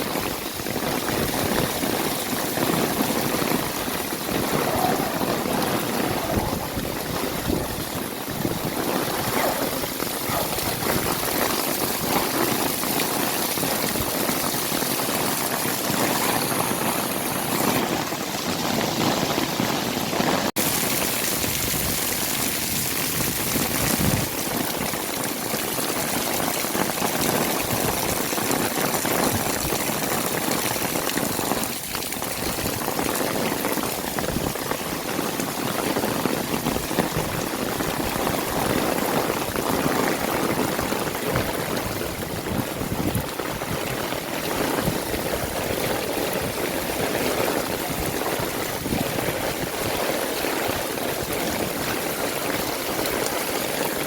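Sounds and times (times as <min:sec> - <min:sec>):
heavy rain falling: 0:00.0 - 0:54.0
water running and pouring: 0:00.0 - 0:54.0.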